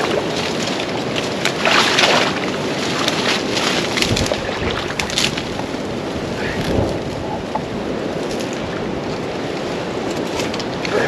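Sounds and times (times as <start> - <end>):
dry stalks rustling and crackling: 0.0 - 11.0
wind buffeting microphone: 0.0 - 11.0.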